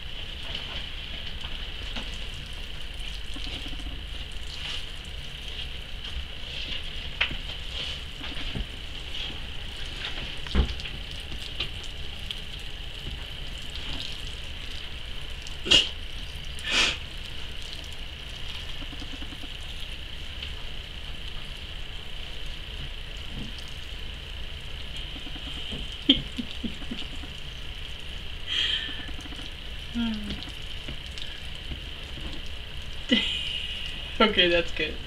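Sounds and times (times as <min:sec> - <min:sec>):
water sprayer hissing and pattering: 0:00.0 - 0:35.0.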